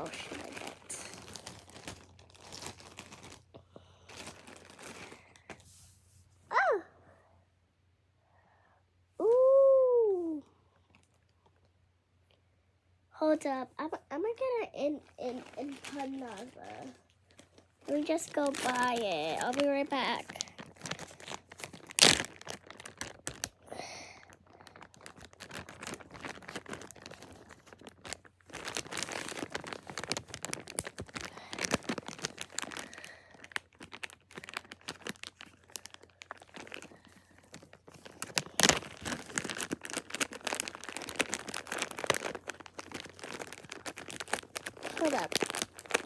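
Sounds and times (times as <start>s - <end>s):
toys rustling and crinkling: 0.0s - 6.0s, 14.2s - 46.0s.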